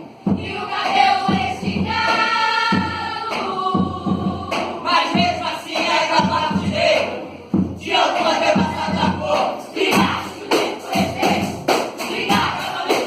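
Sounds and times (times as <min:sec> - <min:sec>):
choir chanting and singing: 0:00.0 - 0:13.0
low thumping beats: 0:00.0 - 0:13.0.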